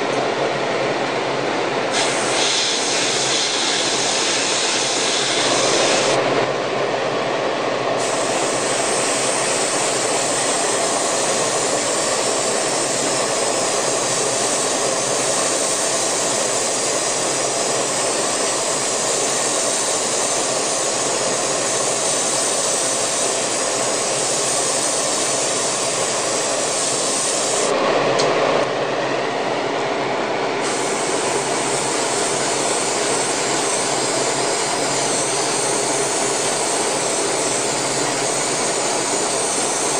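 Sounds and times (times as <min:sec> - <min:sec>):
airbrush hissing: 0:01.9 - 0:06.2, 0:08.0 - 0:27.8, 0:30.6 - 0:39.9.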